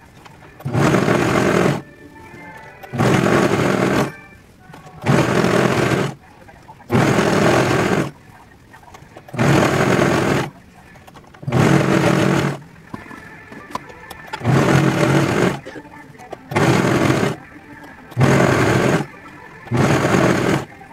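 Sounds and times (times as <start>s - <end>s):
overlock sewing machine running: 0.5s - 6.2s, 6.9s - 8.2s, 9.2s - 12.7s, 13.8s - 17.5s, 18.1s - 20.9s.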